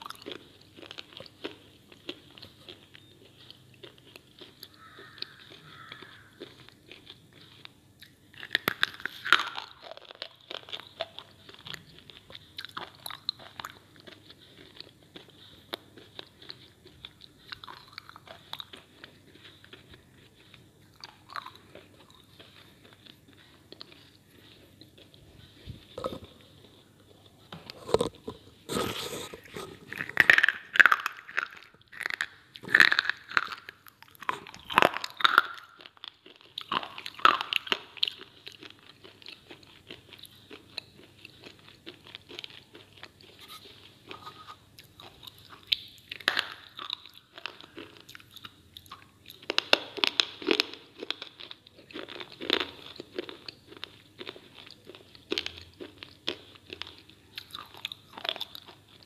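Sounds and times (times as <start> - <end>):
slate crunching being chewed: 0.0 - 59.0.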